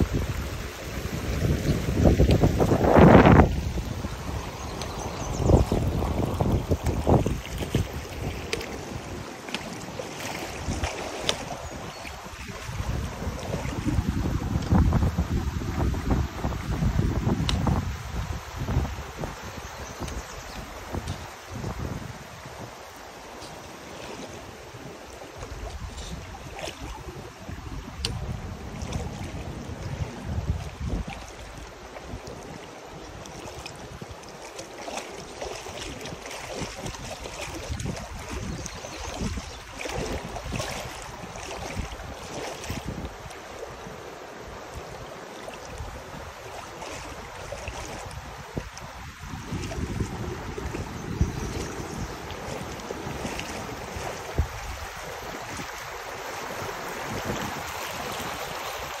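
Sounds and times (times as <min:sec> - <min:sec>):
creek water rushing: 0:00.0 - 0:59.0
wind rumbling on microphone: 0:00.0 - 0:59.0.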